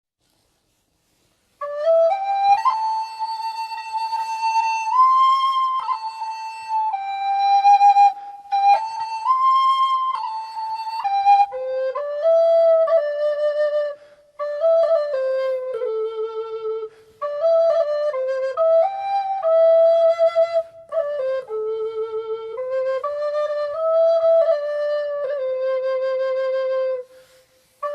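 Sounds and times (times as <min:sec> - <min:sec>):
solo recorder melody: 0:01.6 - 0:27.9.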